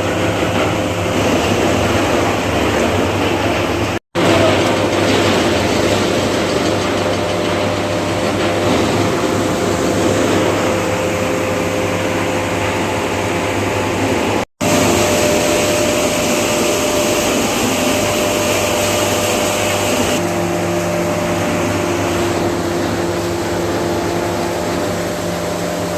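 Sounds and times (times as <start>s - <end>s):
wood chipper running: 0.0s - 25.9s.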